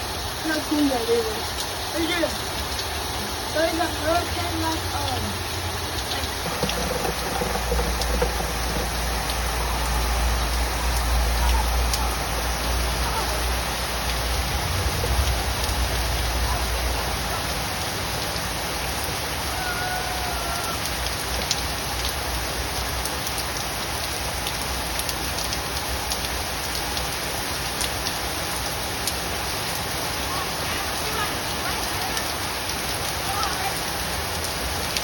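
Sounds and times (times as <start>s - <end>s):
heavy rain falling: 0.0s - 35.0s
raindrops striking close by: 0.0s - 35.0s.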